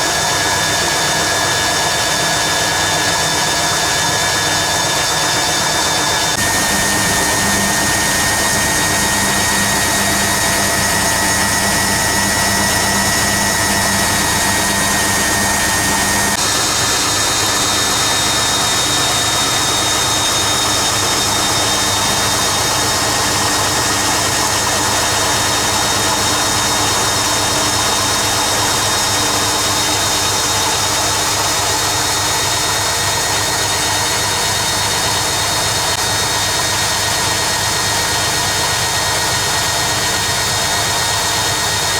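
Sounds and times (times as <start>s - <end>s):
washing machine spinning: 0.0s - 41.9s.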